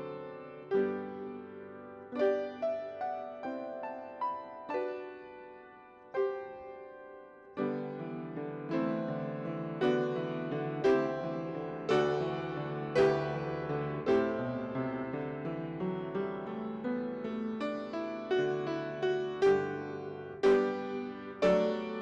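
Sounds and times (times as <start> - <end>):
piano chords playing slowly: 0.0 - 22.0.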